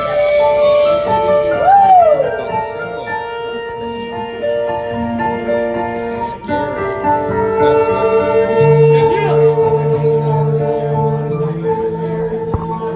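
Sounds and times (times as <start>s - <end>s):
keyboard chords: 0.0s - 12.9s.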